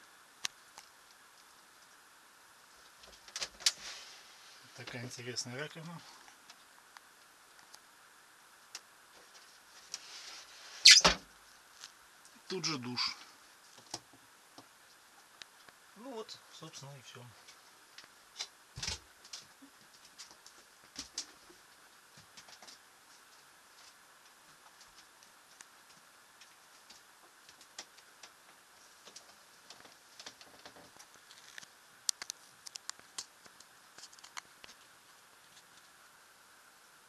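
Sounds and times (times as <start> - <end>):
low hiss: 0.0 - 37.0.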